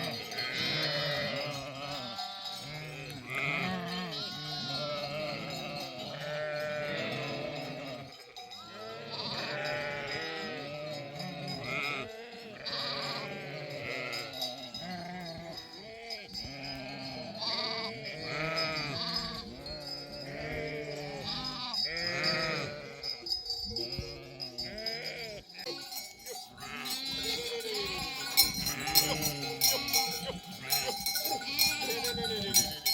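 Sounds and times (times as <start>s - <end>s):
sheep and lambs bleating: 0.0s - 32.9s
sheep bells ringing: 0.0s - 32.9s.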